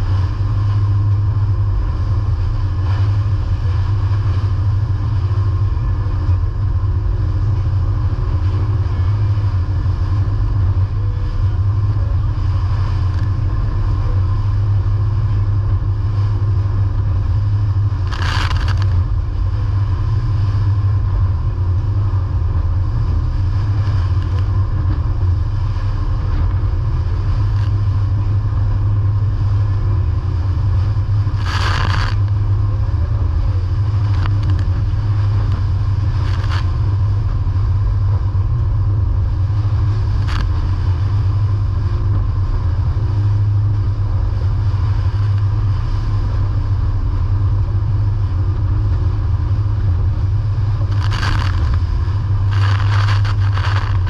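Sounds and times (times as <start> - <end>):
engine drone: 0.0 - 54.0.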